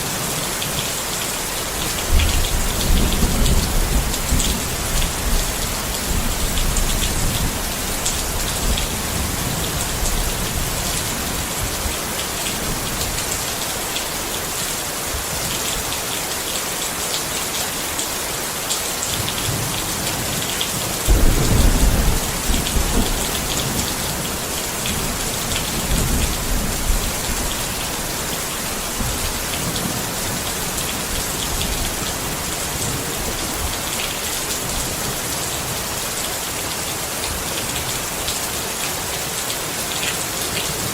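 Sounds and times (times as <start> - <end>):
rain falling on a tent: 0.0 - 40.9.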